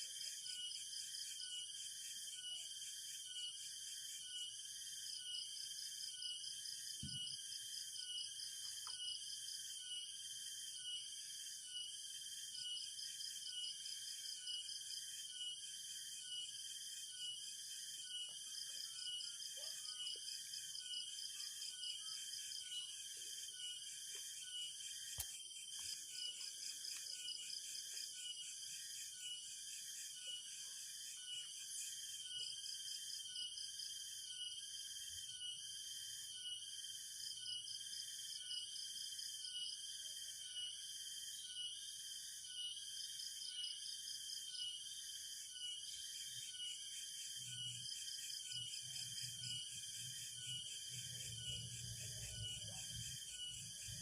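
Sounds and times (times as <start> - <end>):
low pulsing insect call: 0.0 - 54.0.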